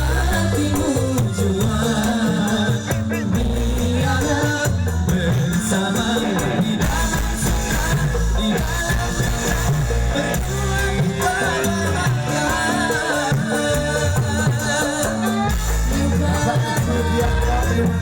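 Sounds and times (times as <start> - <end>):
band playing live: 0.0 - 18.0.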